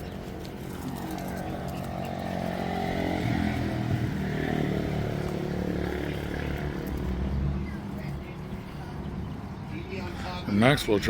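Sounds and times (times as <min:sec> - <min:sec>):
engine running: 0:00.0 - 0:09.0.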